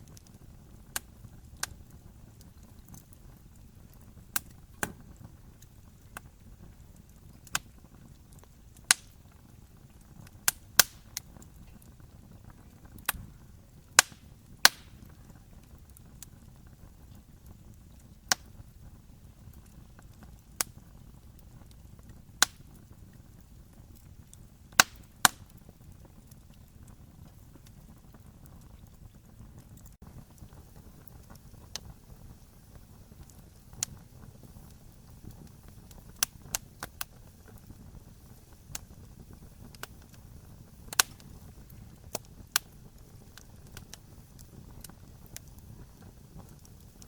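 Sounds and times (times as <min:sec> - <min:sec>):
low rumble of burning fire: 0:00.0 - 0:47.0
wood fire crackling and popping: 0:00.0 - 0:47.0.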